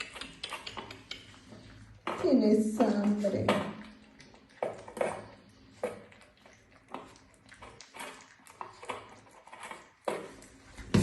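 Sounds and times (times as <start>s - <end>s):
dog chewing wetly: 0.0s - 11.0s.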